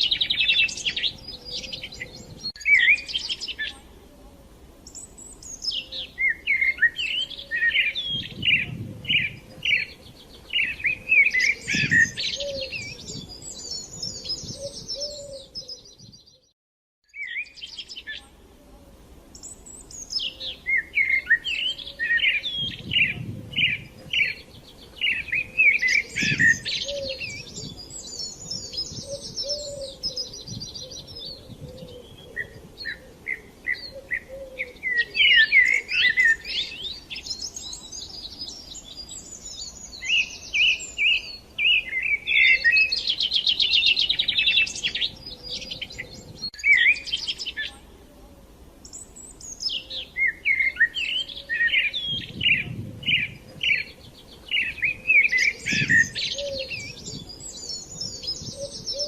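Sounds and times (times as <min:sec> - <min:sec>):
songbird chirps and trills: 0:00.0 - 0:59.0.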